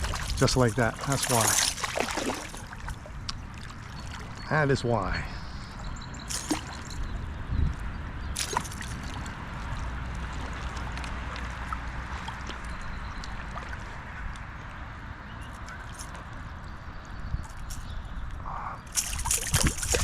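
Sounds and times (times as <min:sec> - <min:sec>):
creek water flowing: 0:00.0 - 0:07.2, 0:08.1 - 0:17.7, 0:18.5 - 0:20.0.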